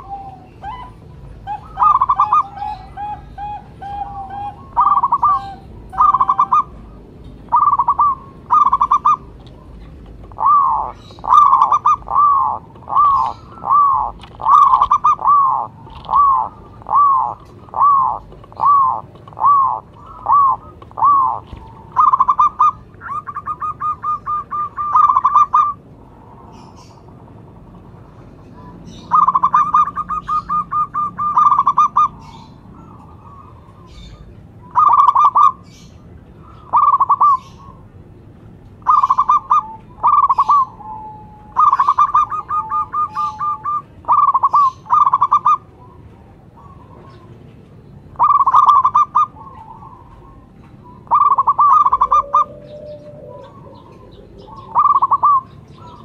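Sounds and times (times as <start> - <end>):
dove cooing: 0.0 - 38.0, 38.8 - 56.0.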